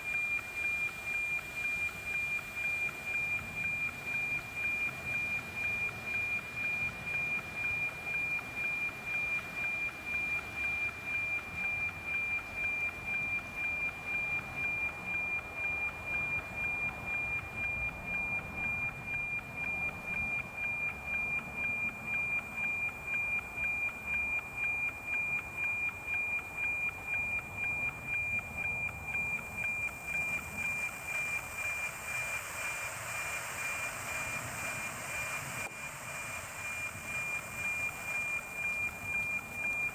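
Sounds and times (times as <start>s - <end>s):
steady ticking high tone: 0.0s - 39.9s.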